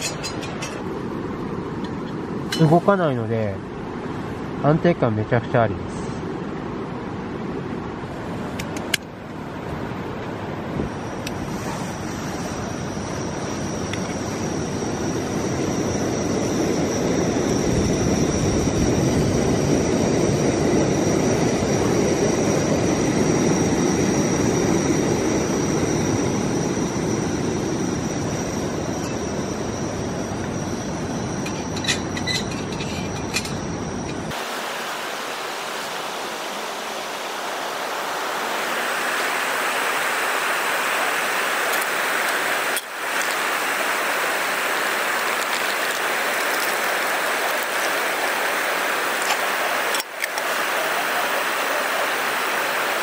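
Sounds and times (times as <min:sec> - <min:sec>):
camping stove roaring: 0:00.0 - 0:02.8, 0:08.1 - 0:34.6, 0:35.2 - 0:53.0.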